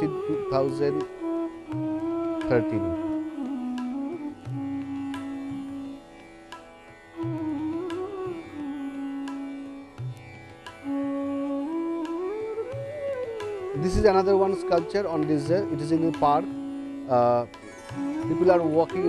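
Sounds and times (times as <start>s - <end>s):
sliding string melody: 0.0s - 19.0s.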